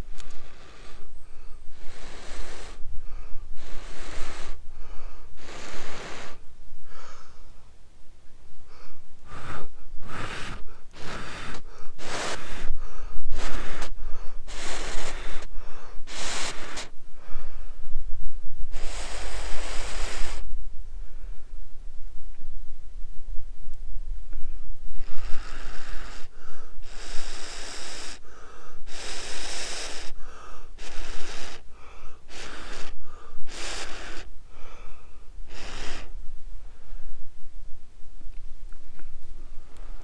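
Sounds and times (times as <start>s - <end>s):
breaths blowing on an ember: 0.0s - 22.1s, 24.2s - 37.8s, 39.0s - 40.0s.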